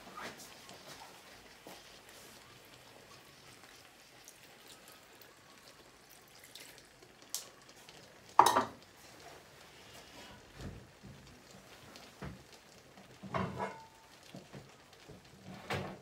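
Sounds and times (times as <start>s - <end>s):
faint sizzling in a frying pan: 0.0s - 16.0s.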